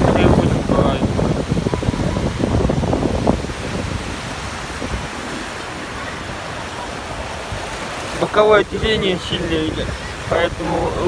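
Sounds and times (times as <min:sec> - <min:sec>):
sea surf washing: 0:00.0 - 0:11.0
wind buffeting microphone: 0:00.0 - 0:11.0.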